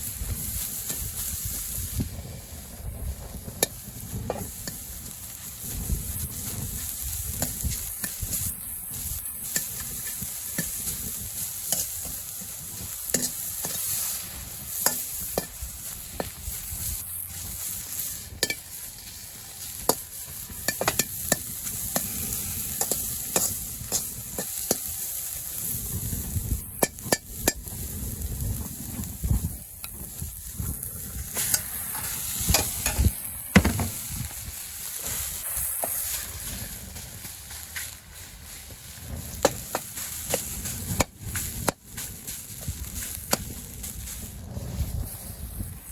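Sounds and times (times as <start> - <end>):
rice sizzling in a wok: 0.0 - 45.9
spatula scraping a wok: 0.0 - 45.9.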